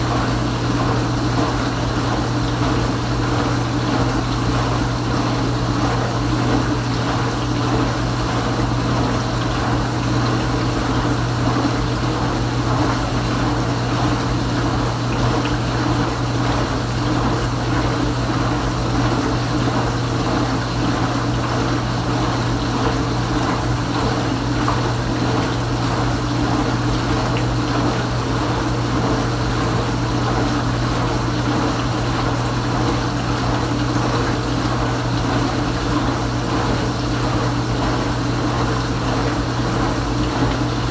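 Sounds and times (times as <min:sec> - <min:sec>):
dishwasher pump motor humming: 0:00.0 - 0:40.9.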